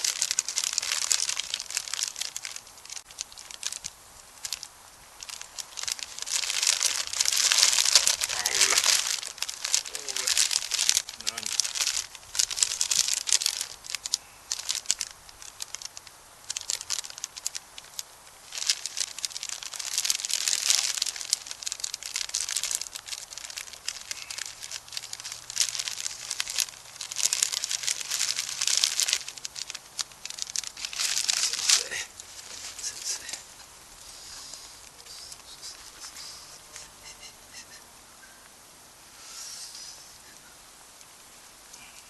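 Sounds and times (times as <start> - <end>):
crinkling and rustling: 0.0 - 36.9.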